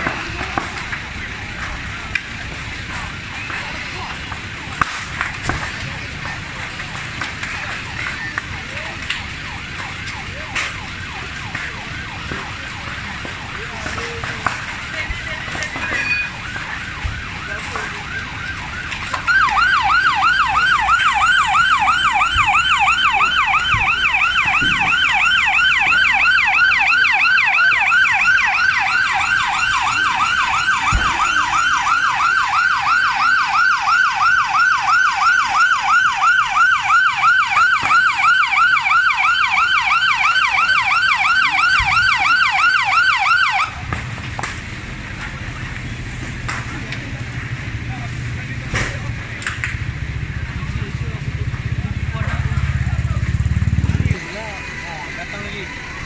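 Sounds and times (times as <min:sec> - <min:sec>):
emergency siren yelping: 0:00.0 - 0:46.6, 0:51.6 - 0:56.0.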